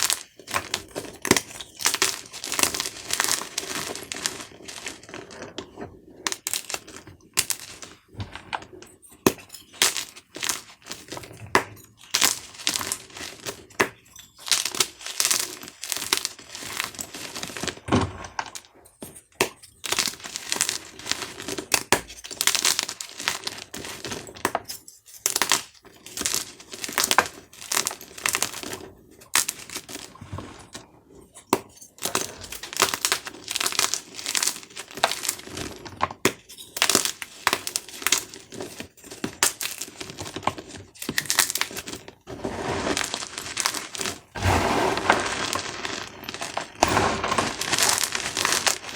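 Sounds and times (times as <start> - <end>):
chalk cubes being crushed: 0.0 - 5.6, 6.3 - 8.0, 9.2 - 18.7, 19.3 - 30.7, 31.4 - 48.9.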